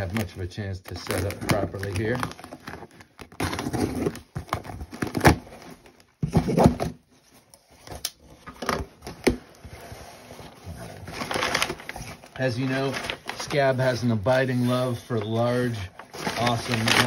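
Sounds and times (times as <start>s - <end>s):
packing paper rustling: 0.0s - 8.0s, 9.0s - 17.0s.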